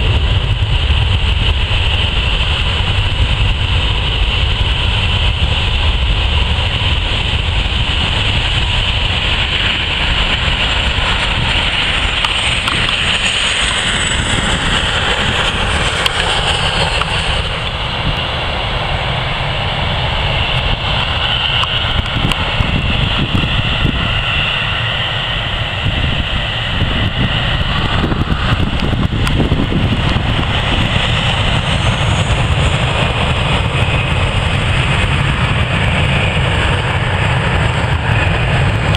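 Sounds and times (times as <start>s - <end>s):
jet engines rumbling and whining: 0.0s - 38.9s
wind buffeting microphone: 0.0s - 38.9s.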